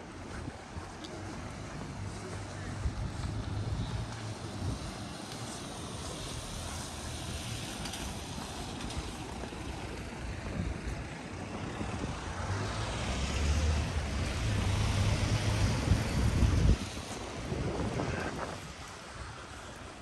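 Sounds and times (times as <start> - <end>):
wind buffeting microphone: 0.0 - 20.0
broad rumble and hiss: 0.1 - 20.0.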